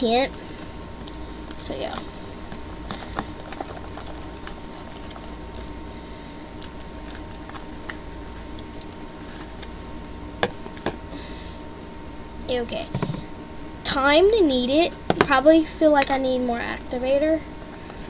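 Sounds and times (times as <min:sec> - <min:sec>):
steady faint hum: 0:00.0 - 0:18.0.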